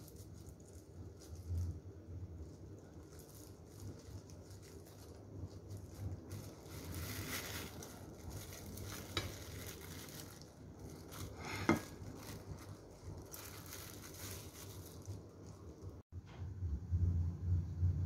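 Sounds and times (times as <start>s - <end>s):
plastic gloves rustling: 0.0s - 16.1s
low steady hum: 0.0s - 18.0s.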